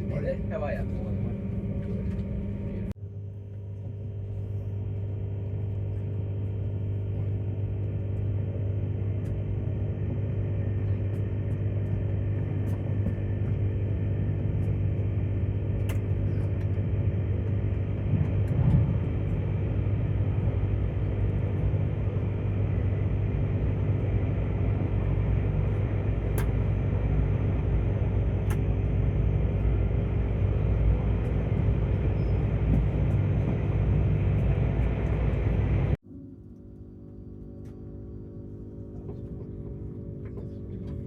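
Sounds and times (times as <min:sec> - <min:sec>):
train cabin rumble and hum: 0:00.0 - 0:41.0.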